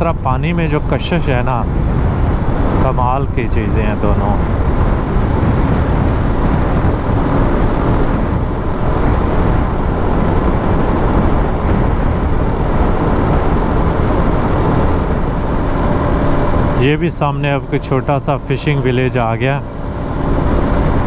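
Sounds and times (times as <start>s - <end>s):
motorcycle engine and tyre noise: 0.0s - 21.0s
wind rushing over microphone: 0.0s - 21.0s.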